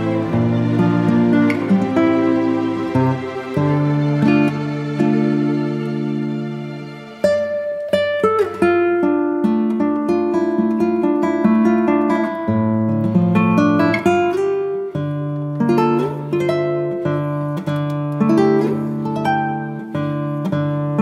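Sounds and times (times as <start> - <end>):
acoustic guitar tune: 0.0 - 21.0.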